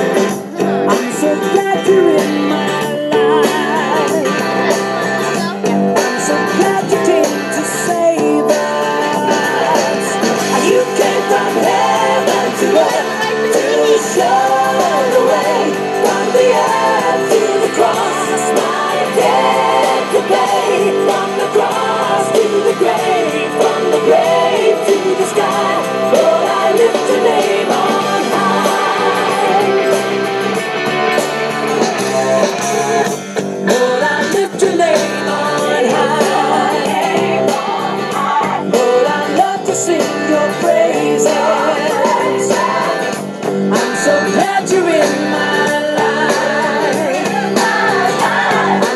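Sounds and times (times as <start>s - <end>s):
pop-rock song over loudspeaker: 0.0s - 48.9s.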